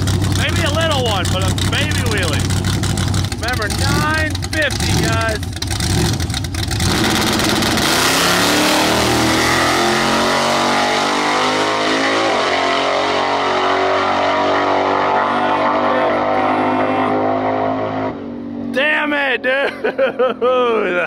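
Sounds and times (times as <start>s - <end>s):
drag racing truck engine at full throttle: 0.0s - 21.0s.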